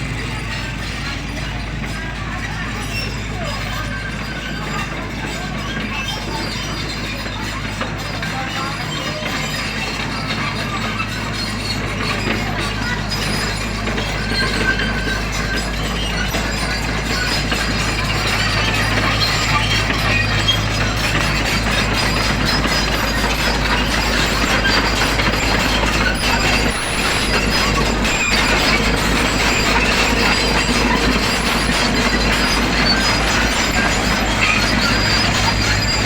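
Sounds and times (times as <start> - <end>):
excavator engine hum: 0.0 - 36.0
high squeaks: 0.0 - 36.0
machine clicking and clatter: 0.0 - 36.0.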